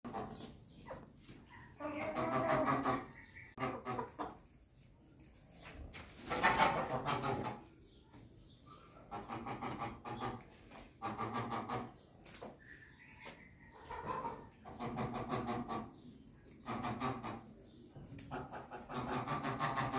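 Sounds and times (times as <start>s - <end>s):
birds calling: 0.1s - 4.4s, 5.5s - 19.9s.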